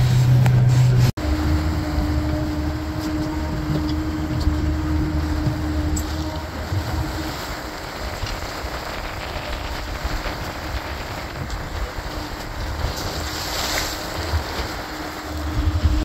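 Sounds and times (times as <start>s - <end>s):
boat wake churning: 0.0s - 16.0s
outboard motor running: 0.0s - 16.0s
wind buffeting microphone: 0.0s - 16.0s.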